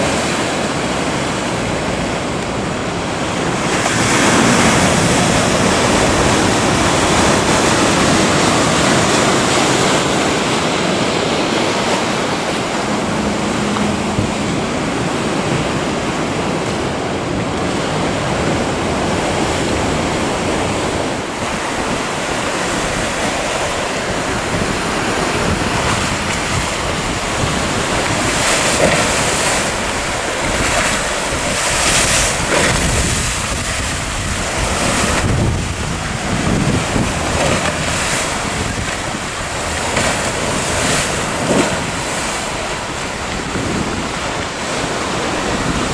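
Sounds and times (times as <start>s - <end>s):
rough sea surf breaking: 0.0s - 45.9s
wind buffeting microphone: 0.0s - 45.9s.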